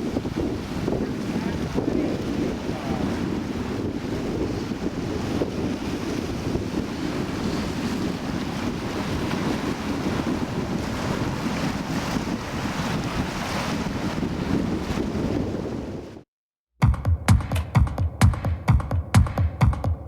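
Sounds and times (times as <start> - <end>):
sea waves washing in: 0.0 - 16.2
wind buffeting microphone: 0.0 - 16.2.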